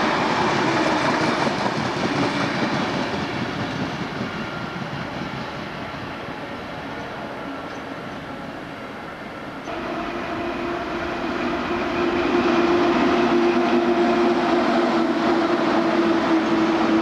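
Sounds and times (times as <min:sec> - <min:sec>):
electric locomotive hum: 0:00.0 - 0:17.0
train wheels rumbling on rails: 0:00.0 - 0:17.0.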